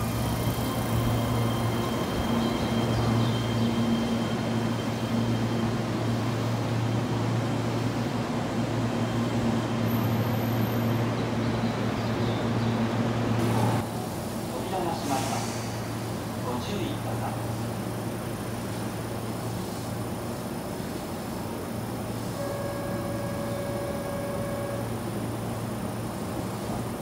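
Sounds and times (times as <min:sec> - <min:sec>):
train low hum: 0:00.0 - 0:27.0
train wheels rumbling on rails: 0:00.0 - 0:27.0.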